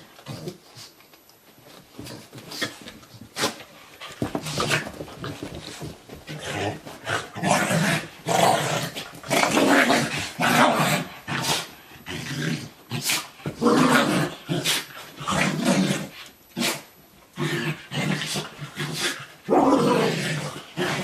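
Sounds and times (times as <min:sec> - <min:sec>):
dogs growling: 0:04.2 - 0:21.0.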